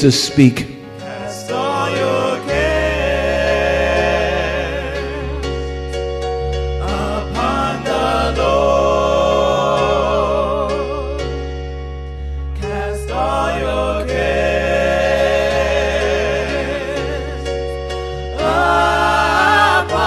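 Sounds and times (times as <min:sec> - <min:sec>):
electronic keyboard chords: 0:00.0 - 0:20.0
gospel singing: 0:00.0 - 0:20.0.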